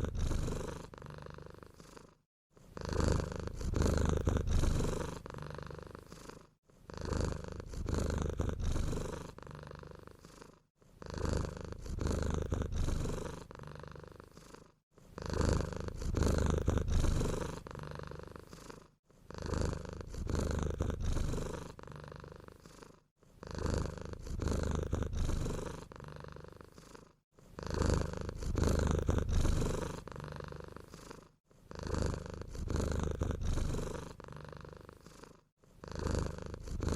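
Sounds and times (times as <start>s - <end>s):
cat snoring: 0.0s - 36.9s.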